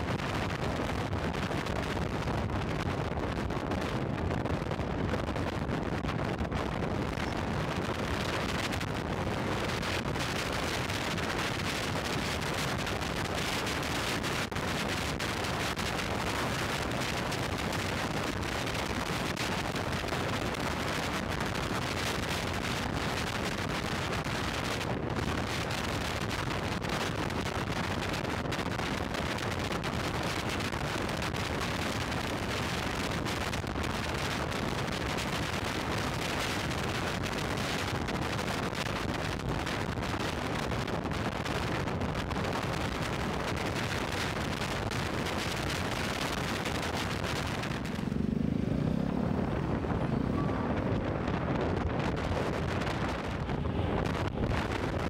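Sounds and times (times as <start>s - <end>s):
road noise: 0.0s - 55.0s
wind rushing over microphone: 0.0s - 55.0s.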